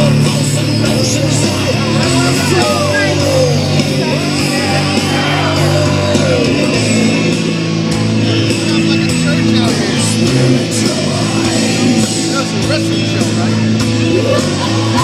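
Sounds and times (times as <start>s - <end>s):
electric guitar: 0.0s - 15.0s
loud rock music: 0.0s - 15.0s
steady bass: 0.0s - 15.0s.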